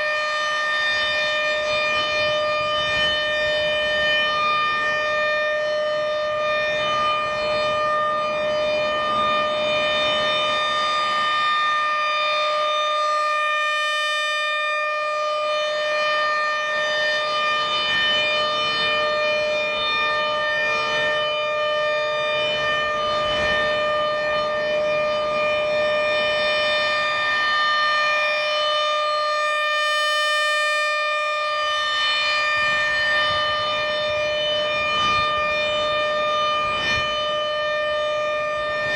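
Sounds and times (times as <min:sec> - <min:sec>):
steady mechanical siren tone: 0:00.0 - 0:38.9.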